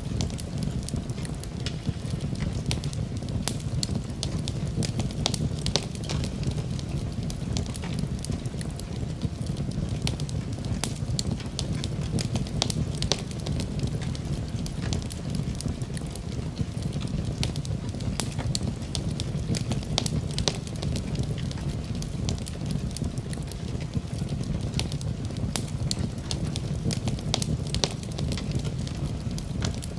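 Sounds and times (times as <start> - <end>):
fire popping: 0.0 - 29.9
fireplace fire crackling: 0.0 - 29.9
low fire rumble: 0.0 - 29.9.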